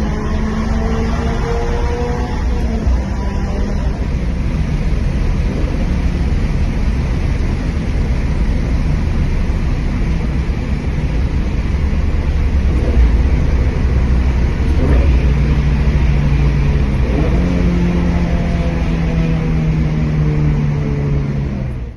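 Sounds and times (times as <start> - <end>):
car exhaust rumbling in tunnel: 0.0 - 21.9.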